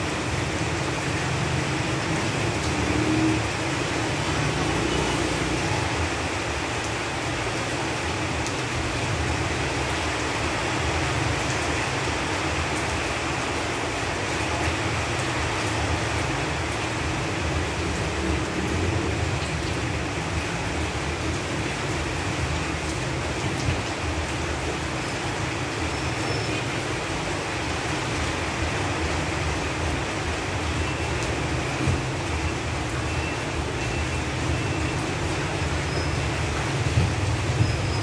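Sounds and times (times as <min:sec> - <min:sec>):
rain on leaves: 0:00.0 - 0:38.0.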